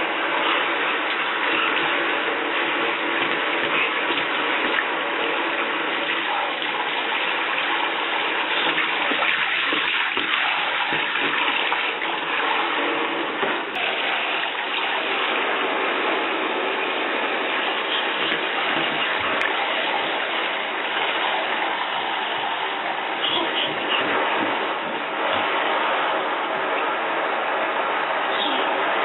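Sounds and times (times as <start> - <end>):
shower spraying into bathtub: 0.0 - 26.4.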